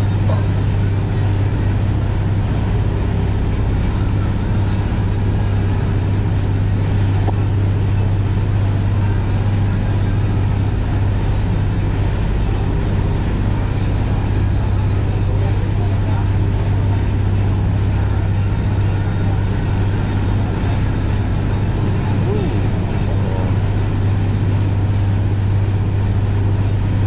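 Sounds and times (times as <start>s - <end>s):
motorboat engine droning: 0.0s - 27.0s.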